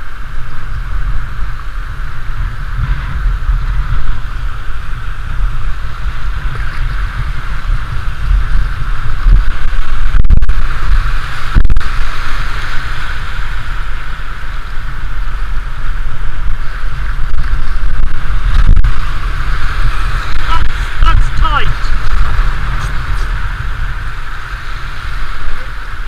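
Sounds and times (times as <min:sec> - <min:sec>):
whitewater rushing: 0:00.0 - 0:26.0
wind rumble on microphone: 0:00.0 - 0:26.0.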